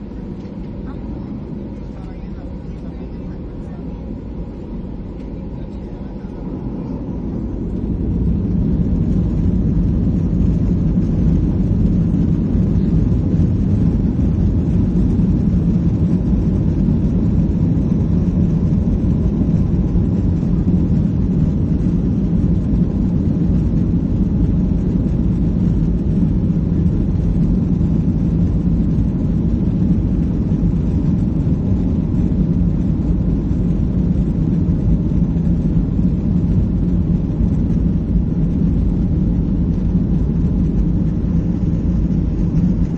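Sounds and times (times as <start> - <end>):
jet engines rumbling in cabin: 0.0 - 42.9.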